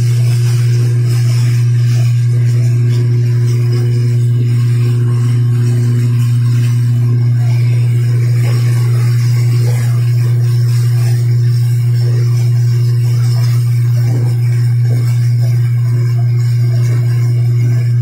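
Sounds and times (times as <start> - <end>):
power line electrical buzz: 0.0 - 18.0.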